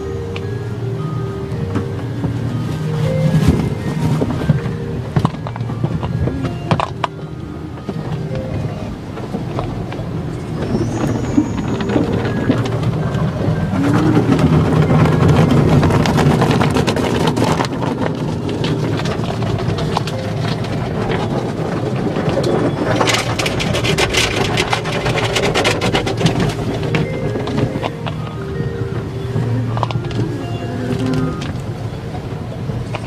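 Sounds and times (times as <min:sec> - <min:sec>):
car wash machinery: 0:00.0 - 0:33.0
low hum: 0:00.0 - 0:33.0.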